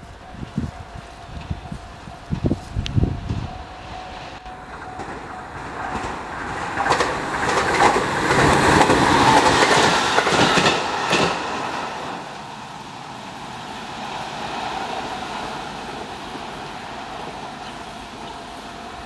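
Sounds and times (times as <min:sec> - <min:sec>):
electric train passing: 0:00.0 - 0:19.0
wheels clacking over rail joints: 0:00.0 - 0:19.0.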